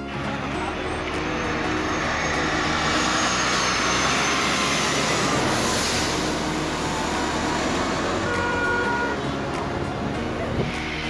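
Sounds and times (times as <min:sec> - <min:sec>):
jet airliner engines roaring: 0:00.0 - 0:11.0.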